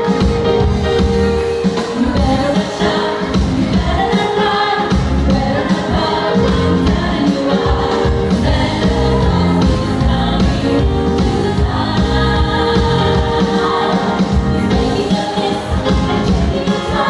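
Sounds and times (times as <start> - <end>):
amplified backing music with beat: 0.0 - 17.0
women singing together: 1.8 - 17.0.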